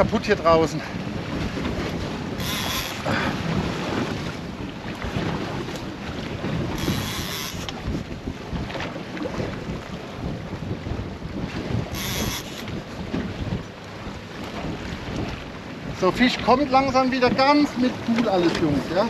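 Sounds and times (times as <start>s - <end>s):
water slapping against a boat: 0.0s - 19.0s
wind buffeting the microphone: 0.0s - 19.0s.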